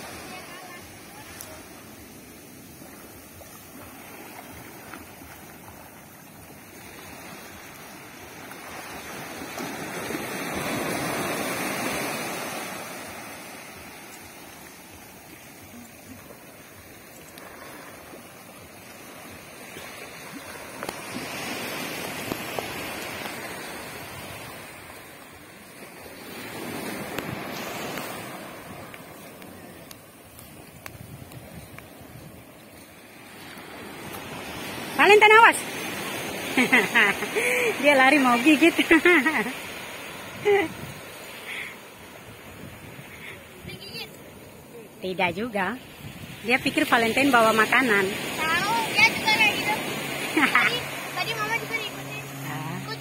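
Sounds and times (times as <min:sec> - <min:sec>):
small waves washing on sand: 0:00.0 - 0:53.0.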